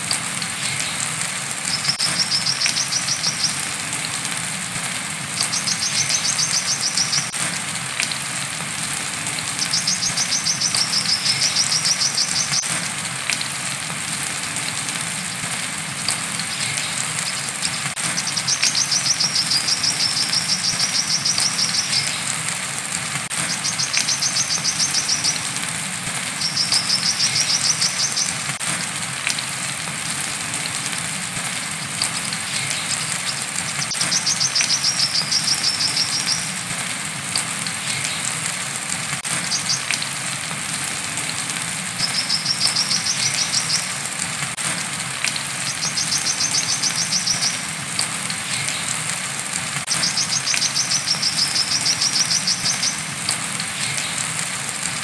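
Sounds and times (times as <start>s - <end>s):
rain hissing: 0.0s - 55.0s.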